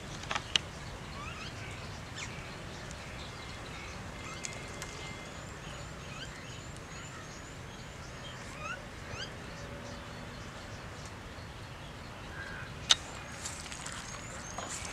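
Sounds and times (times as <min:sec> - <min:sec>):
outdoor background noise: 0:00.0 - 0:14.9
small birds chirping: 0:00.0 - 0:14.9.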